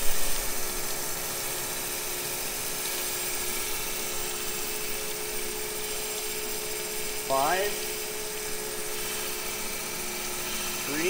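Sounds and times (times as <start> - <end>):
grinding wheel hiss: 0.0 - 11.0
machine hum: 0.0 - 11.0.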